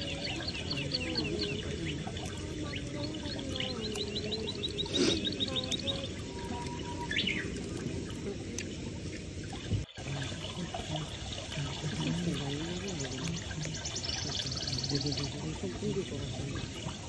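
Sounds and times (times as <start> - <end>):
birds chirping: 0.0 - 17.0
outdoor background noise: 0.0 - 17.0.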